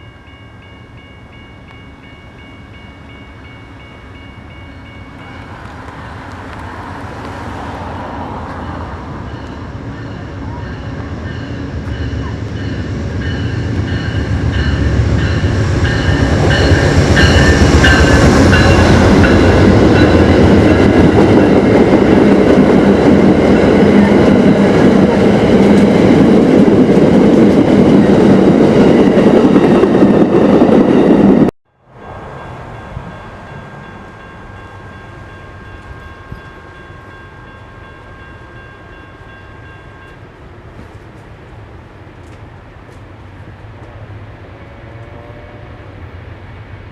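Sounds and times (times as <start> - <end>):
train rumble and wheel noise: 0.0 - 46.9.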